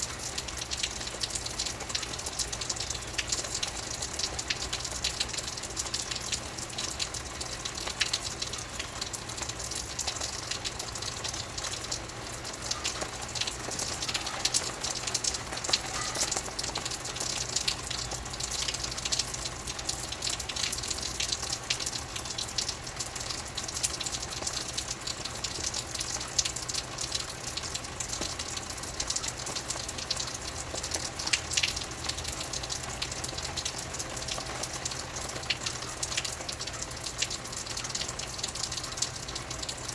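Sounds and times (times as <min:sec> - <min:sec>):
rain drop splashes: 0:00.0 - 0:39.9
steady rain hiss: 0:00.0 - 0:39.9.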